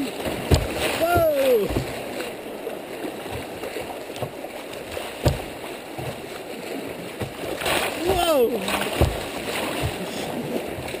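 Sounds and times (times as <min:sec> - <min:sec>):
creek water rushing: 0:00.0 - 0:11.0
splashes and knocks against boat: 0:00.0 - 0:11.0.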